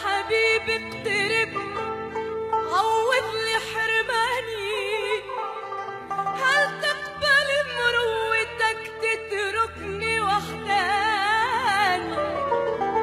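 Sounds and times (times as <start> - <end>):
woman singing with vibrato: 0.0 - 2.0, 2.6 - 5.6, 6.2 - 12.5
instrumental accompaniment: 0.0 - 13.0.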